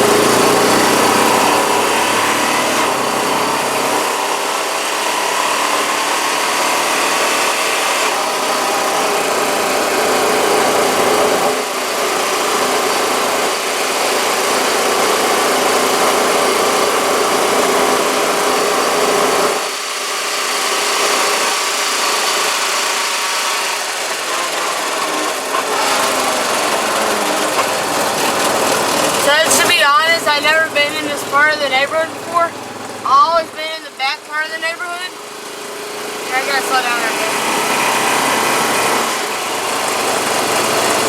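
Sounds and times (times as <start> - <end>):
atv engine drone: 0.0 - 41.0.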